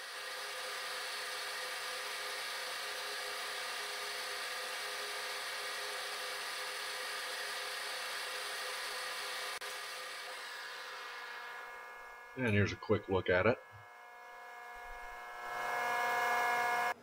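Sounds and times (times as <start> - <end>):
milling machine running: 0.0 - 17.0.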